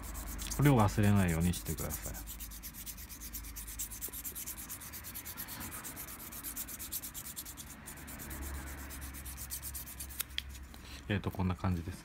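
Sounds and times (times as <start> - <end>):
sandpaper rasping on leather: 0.0 - 10.6.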